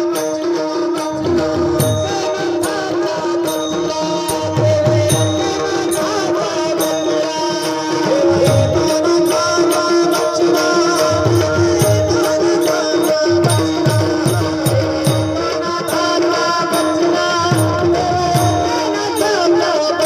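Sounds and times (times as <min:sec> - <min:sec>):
tabla playing: 0:00.0 - 0:20.0.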